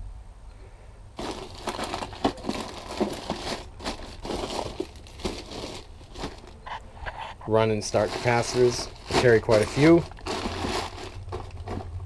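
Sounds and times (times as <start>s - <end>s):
plastic bags crinkling: 1.2s - 6.7s, 7.5s - 12.0s.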